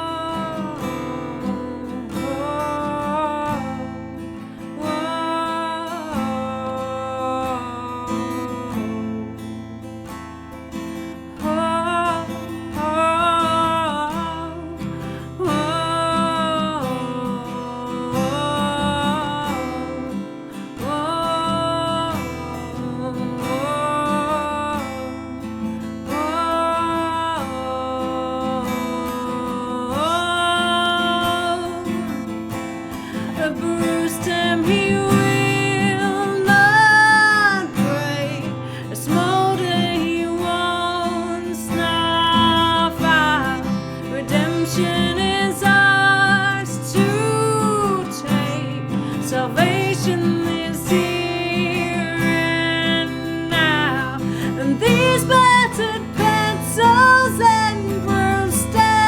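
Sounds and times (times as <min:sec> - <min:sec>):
woman singing wordless phrases: 0:00.0 - 0:10.1, 0:11.0 - 0:59.0
strummed acoustic guitar: 0:00.0 - 0:59.0.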